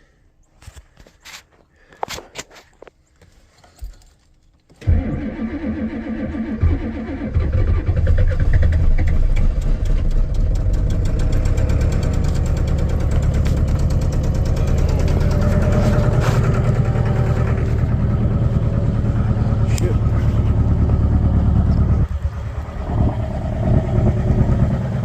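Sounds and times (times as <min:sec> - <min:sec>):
diesel engine cranking and idling: 0:04.6 - 0:25.0.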